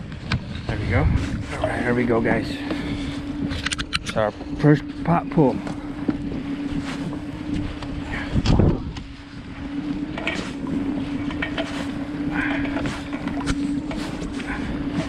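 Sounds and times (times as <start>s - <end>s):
small outboard motor humming: 0.0s - 15.0s
wind buffeting microphone: 0.0s - 15.0s.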